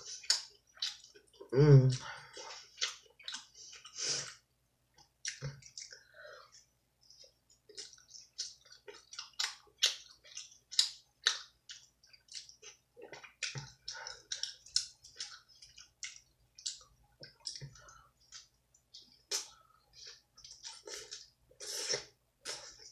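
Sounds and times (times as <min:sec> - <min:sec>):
wet chewing and mouth smacking: 0:00.0 - 0:06.0, 0:07.1 - 0:22.9.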